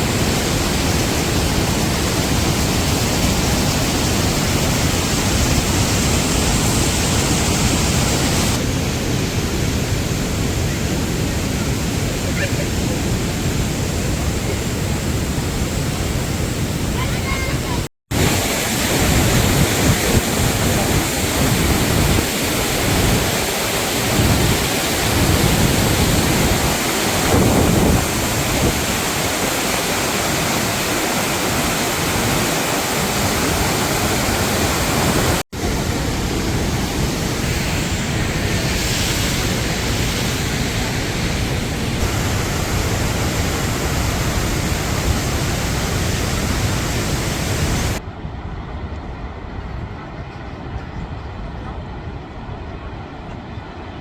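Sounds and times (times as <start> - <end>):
waterfall thundering: 0.0 - 48.0.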